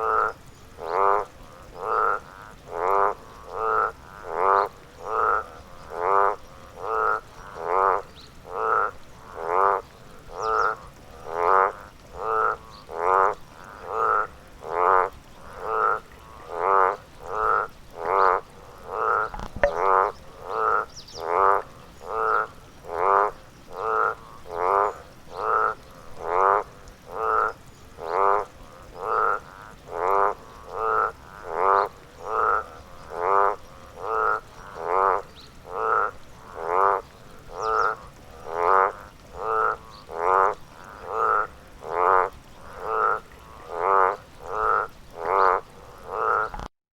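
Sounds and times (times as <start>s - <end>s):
frog croaking: 0.0s - 46.7s.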